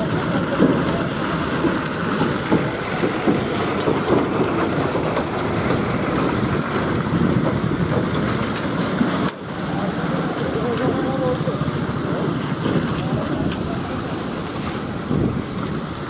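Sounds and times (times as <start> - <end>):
lorry diesel engine running: 0.0 - 16.0
tyre noise on wet road: 0.0 - 16.0.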